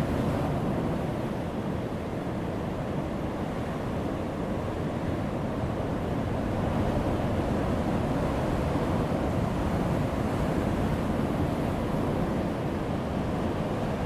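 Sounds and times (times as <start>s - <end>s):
heavy surf on rocky shore: 0.0s - 14.0s.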